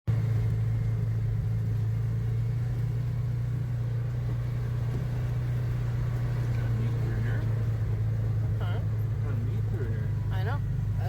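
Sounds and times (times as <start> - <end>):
atv engine droning: 0.1 - 11.0.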